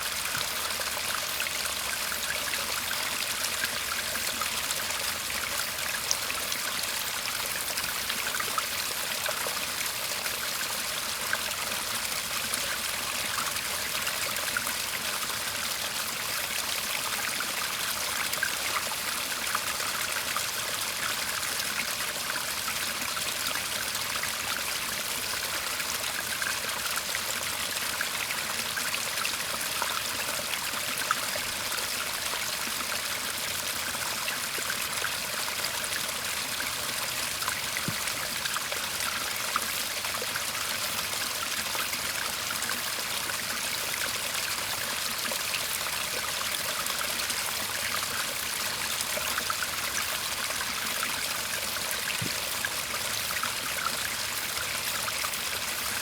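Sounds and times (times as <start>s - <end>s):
stream babbling: 0.0s - 56.0s.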